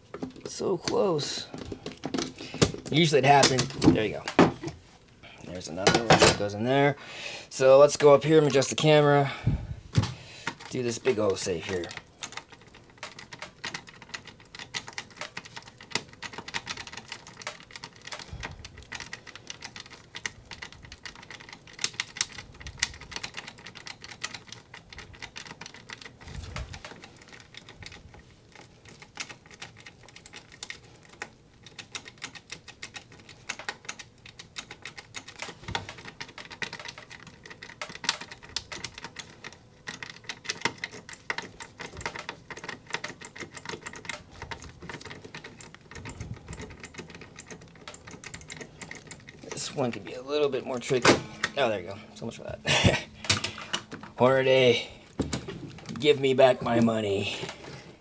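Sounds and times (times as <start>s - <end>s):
lock picking clicking and rattling: 0.0s - 4.8s, 5.8s - 6.5s, 9.9s - 58.0s.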